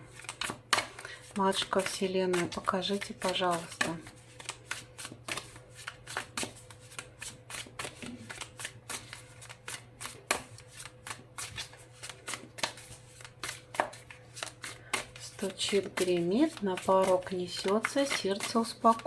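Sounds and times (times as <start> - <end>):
cards being shuffled: 0.1 - 19.0.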